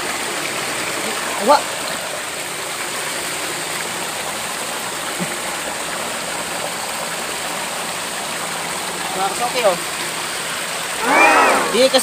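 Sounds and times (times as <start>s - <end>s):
water pouring into a channel: 0.0s - 11.0s.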